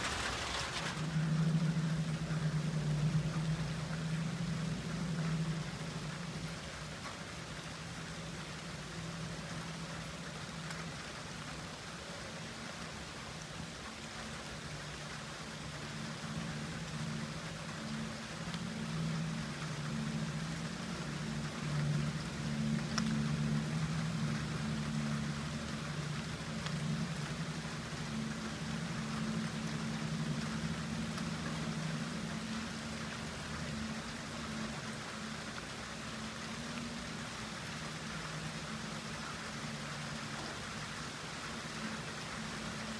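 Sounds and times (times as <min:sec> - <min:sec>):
low engine-like hum: 0:00.0 - 0:42.9
rain hiss: 0:00.0 - 0:42.9.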